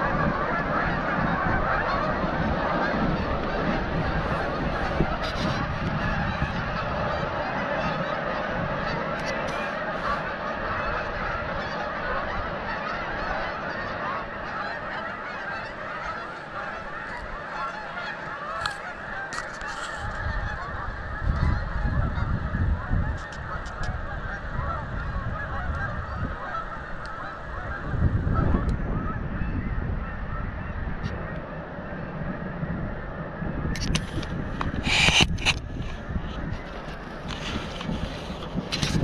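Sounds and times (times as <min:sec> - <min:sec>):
geese honking: 0:00.0 - 0:39.0.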